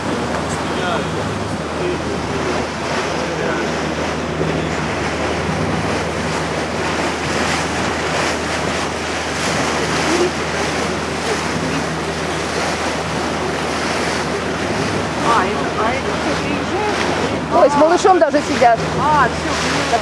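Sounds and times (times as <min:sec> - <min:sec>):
boat engine humming: 0:00.0 - 0:20.0
water rushing along hull: 0:00.0 - 0:20.0
wind buffeting microphone: 0:00.0 - 0:20.0.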